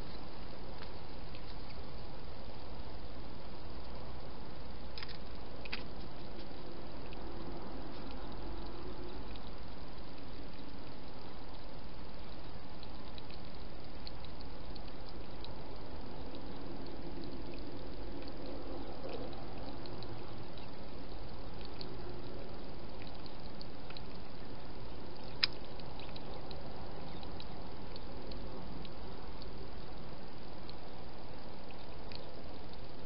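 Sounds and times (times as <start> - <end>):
steady hiss: 0.0 - 33.0
hedgehog lapping water: 4.9 - 32.9.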